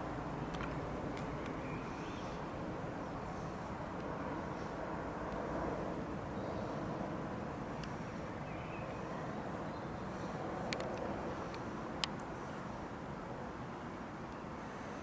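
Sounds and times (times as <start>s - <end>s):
jet airliner rumble overhead: 0.0s - 15.0s.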